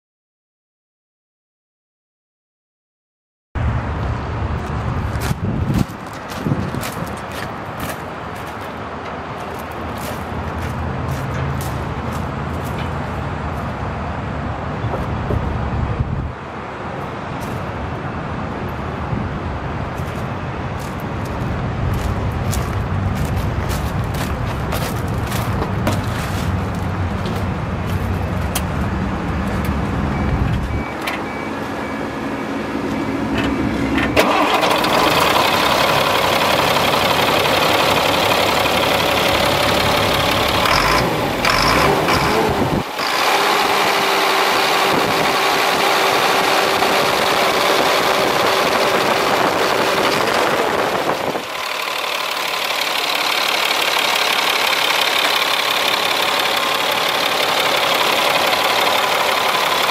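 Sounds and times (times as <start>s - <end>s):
truck engine starting and running: 3.6s - 59.9s.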